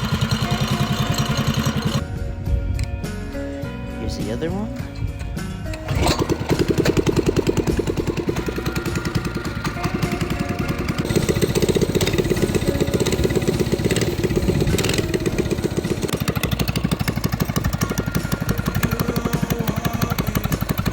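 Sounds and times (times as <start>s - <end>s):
small minibike engine running: 0.0s - 2.0s, 5.8s - 20.9s.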